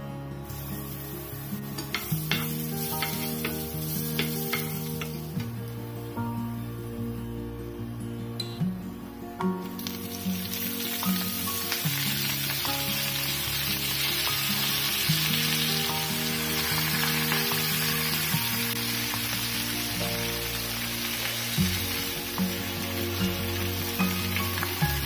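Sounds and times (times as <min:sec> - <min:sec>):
background music: 0:00.0 - 0:25.0
food sizzling in hot oil: 0:00.4 - 0:06.9, 0:09.6 - 0:25.0.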